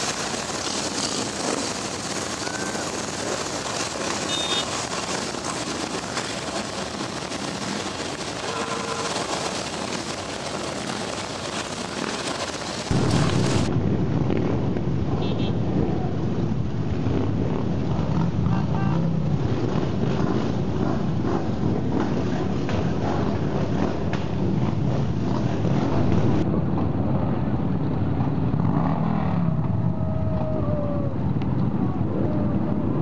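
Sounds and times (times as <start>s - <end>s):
wind noise: 0.0s - 28.7s
motorcycle engines rumbling: 0.0s - 33.0s.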